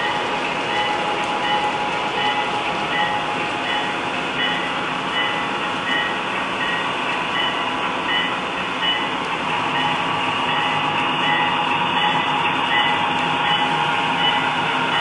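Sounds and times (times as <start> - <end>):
model locomotives running: 0.0 - 15.0.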